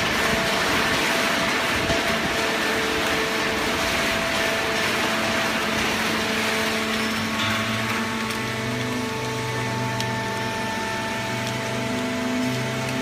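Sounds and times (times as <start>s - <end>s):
baling press whirring and hissing: 0.0s - 13.0s
steady hum tones: 0.0s - 13.0s.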